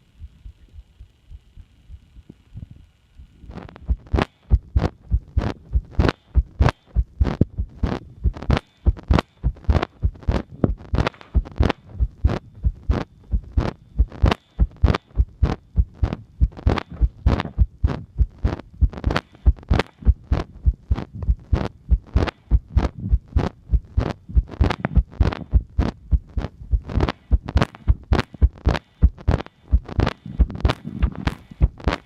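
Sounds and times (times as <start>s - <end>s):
heartbeat thuds: 3.6s - 32.0s.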